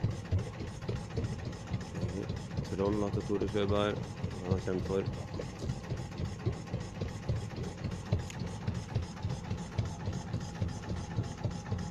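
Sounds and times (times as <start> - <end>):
boat inboard engine running: 0.0 - 11.9.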